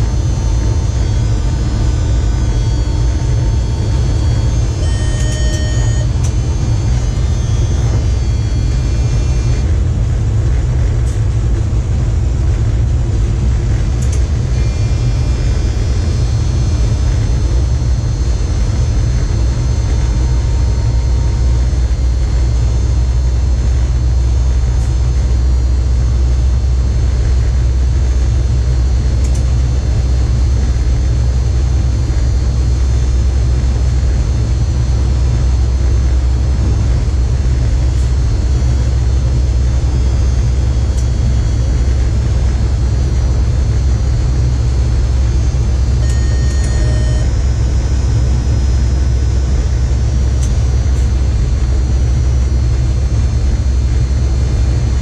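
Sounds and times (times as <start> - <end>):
high electrical whines: 0.0 - 55.0
train cab rumble: 0.0 - 55.0.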